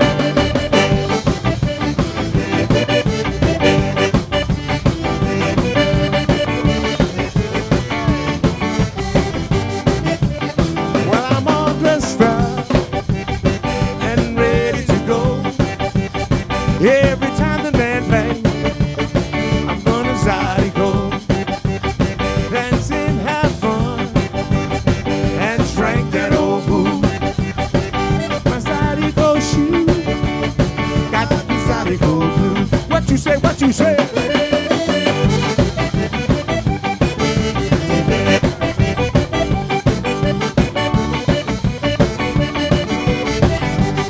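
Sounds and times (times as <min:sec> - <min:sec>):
bass guitar: 0:00.0 - 0:44.0
drum kit: 0:00.0 - 0:44.0
electric guitar: 0:00.0 - 0:44.0
piano accordion lead: 0:00.0 - 0:44.0.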